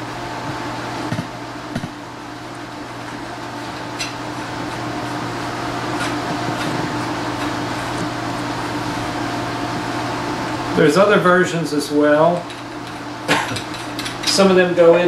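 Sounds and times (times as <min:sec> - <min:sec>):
mechanical hum with hiss: 0:00.0 - 0:15.0.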